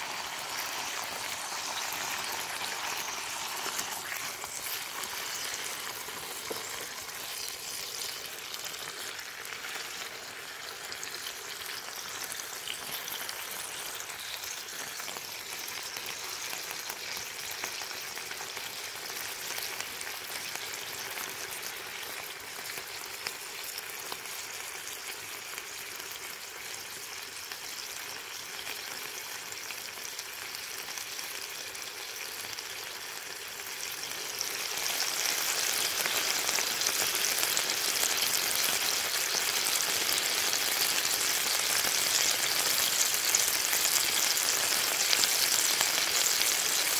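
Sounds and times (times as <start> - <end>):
bacon sizzling in a frying pan: 0.0 - 46.9.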